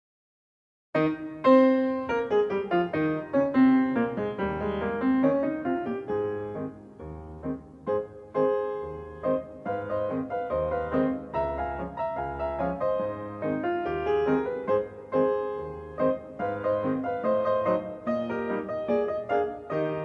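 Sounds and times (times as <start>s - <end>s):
piano music: 1.0s - 20.0s.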